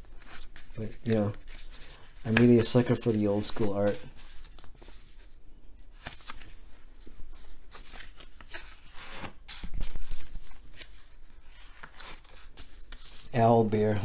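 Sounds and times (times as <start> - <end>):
book pages turning: 0.0 - 13.6.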